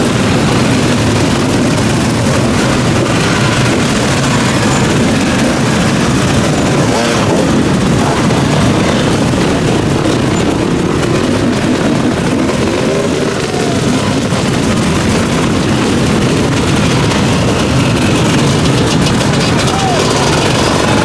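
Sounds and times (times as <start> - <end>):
motorcycle and quad engines revving: 0.0 - 21.0.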